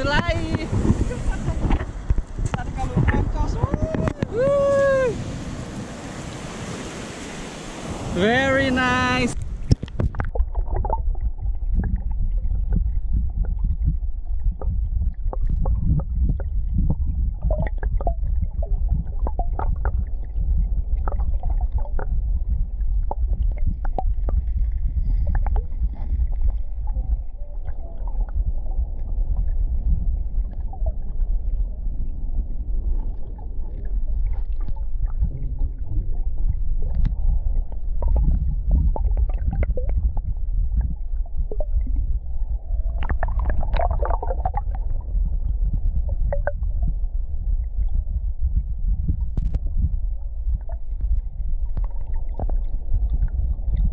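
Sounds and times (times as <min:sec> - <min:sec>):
underwater rumble and gurgling: 0:00.0 - 0:53.9.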